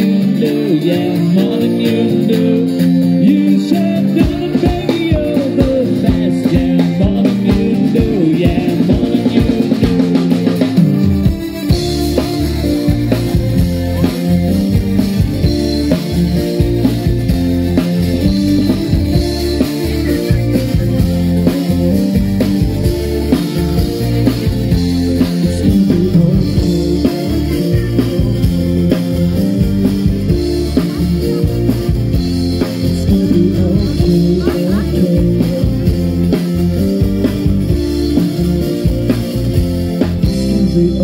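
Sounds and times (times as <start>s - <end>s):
pop-rock band over loudspeakers: 0.0s - 41.0s.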